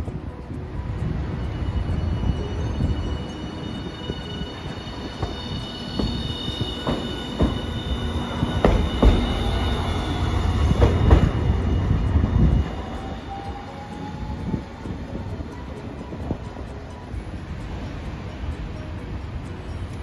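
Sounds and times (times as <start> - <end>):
high wheel squeal: 0.0 - 20.0
tram wheel rumble: 0.0 - 20.0
wheels clacking over rail joints: 0.0 - 20.0.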